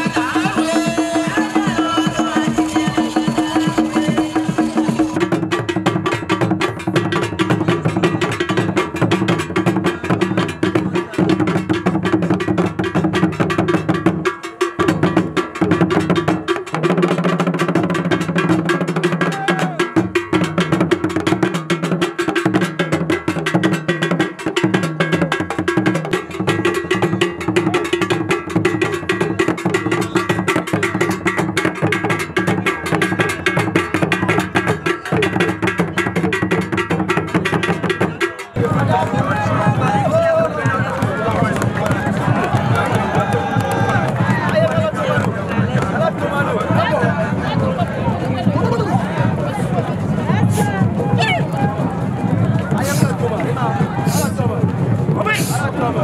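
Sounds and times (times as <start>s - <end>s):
barrel drums beaten with sticks: 0.0s - 49.4s.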